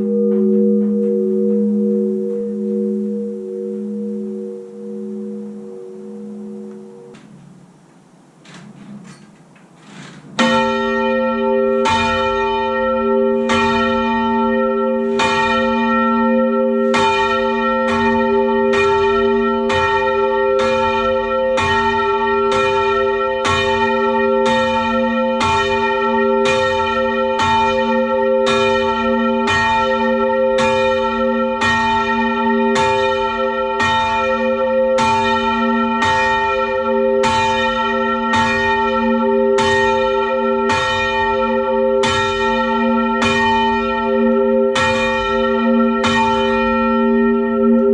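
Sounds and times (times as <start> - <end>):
church bells ringing: 0.0 - 7.7, 10.0 - 47.9.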